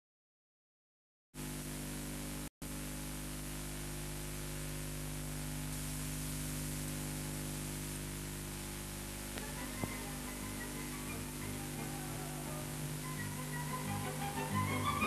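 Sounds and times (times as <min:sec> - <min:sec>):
low electrical hum: 0:01.4 - 0:15.0
tape hiss: 0:01.4 - 0:15.0.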